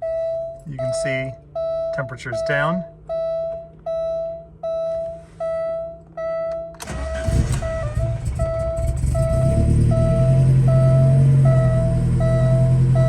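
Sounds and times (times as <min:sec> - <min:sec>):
car engine cranking and starting: 0:00.0 - 0:13.0
car warning chime: 0:00.0 - 0:13.0.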